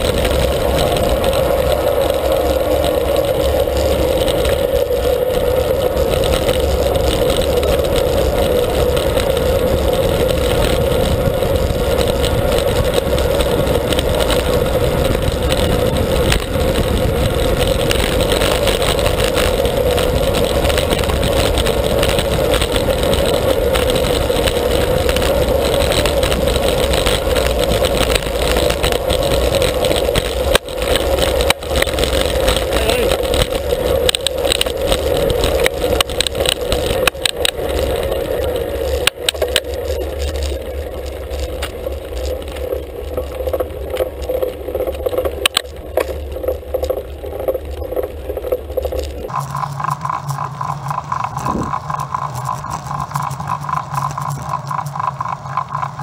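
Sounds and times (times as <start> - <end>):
road rumble: 0.0 - 56.0
wind rushing while cycling: 0.0 - 56.0.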